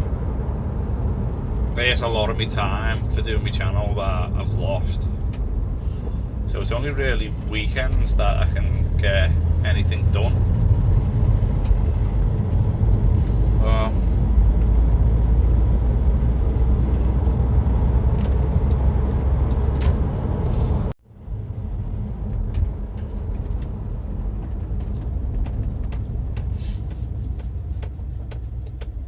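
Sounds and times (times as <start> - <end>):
road and engine rumble in vehicle: 0.0 - 29.0.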